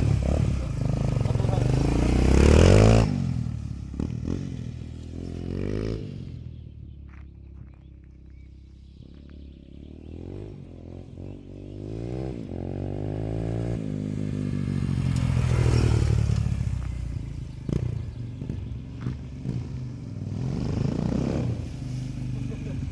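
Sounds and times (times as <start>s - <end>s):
motorcycle engine accelerating hard: 0.0s - 22.9s.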